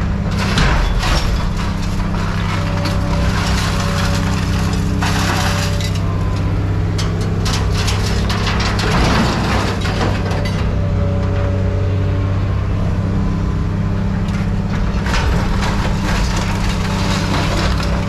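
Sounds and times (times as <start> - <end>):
scrap metal clattering: 0.2 - 11.6, 14.3 - 18.0.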